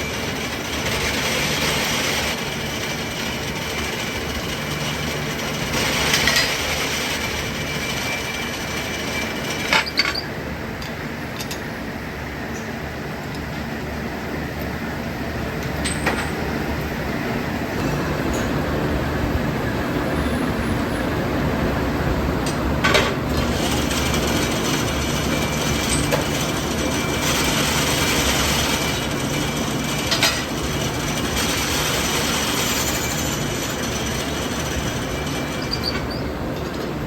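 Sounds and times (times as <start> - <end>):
machinery rumble and hiss: 0.0 - 37.0.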